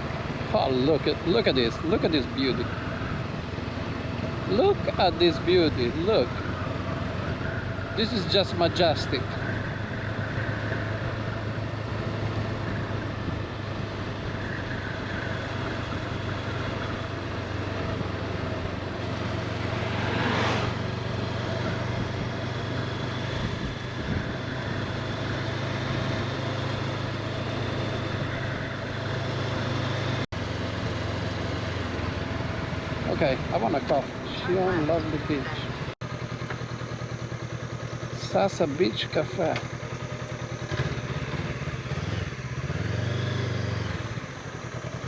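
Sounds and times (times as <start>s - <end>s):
motorcycle engine drone: 0.0s - 45.0s
wind and road noise: 0.0s - 45.0s.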